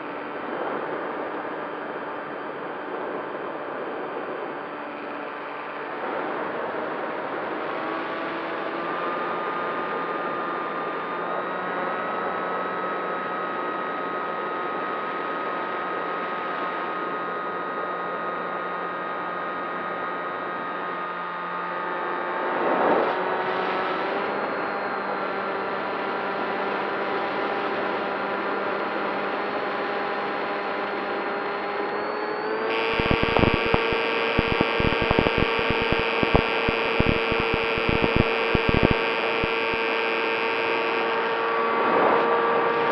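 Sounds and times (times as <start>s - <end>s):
model airplane motor droning: 3.0s - 42.9s.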